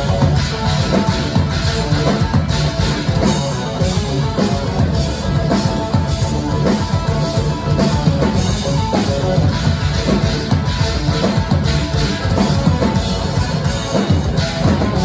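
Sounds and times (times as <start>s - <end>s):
bass guitar: 0.0s - 15.0s
drum kit beat: 0.0s - 15.0s
electric guitars: 0.0s - 15.0s.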